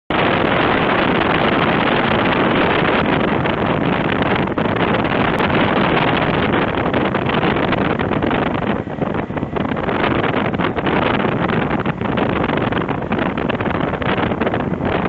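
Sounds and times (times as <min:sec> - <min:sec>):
wind noise on microphone: 0:00.1 - 0:15.0.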